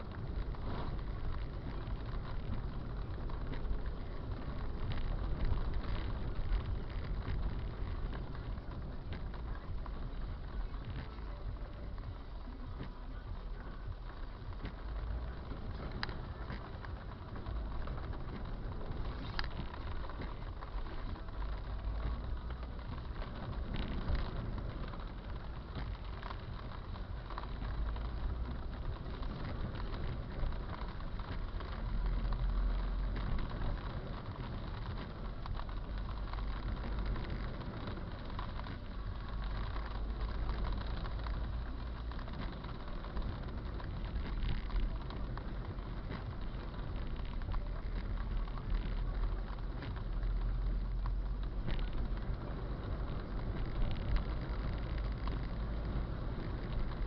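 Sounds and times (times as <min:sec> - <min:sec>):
heavy rain hissing: 0:00.0 - 0:57.0
low rumble: 0:00.0 - 0:57.0
raindrops ticking: 0:00.0 - 0:57.0.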